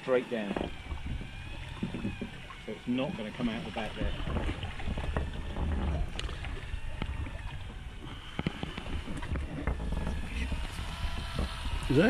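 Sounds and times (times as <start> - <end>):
boat low rumble: 0.0 - 12.0
fishing reel being worked: 0.0 - 12.0.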